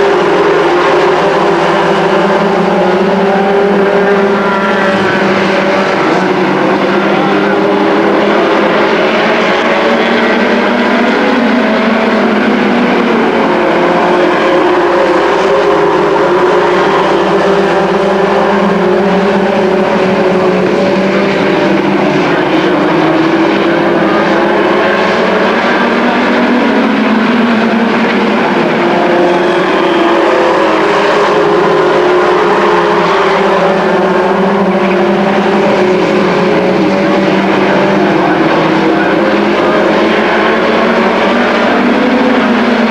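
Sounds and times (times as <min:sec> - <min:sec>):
race truck engines roaring: 0:00.0 - 0:42.9.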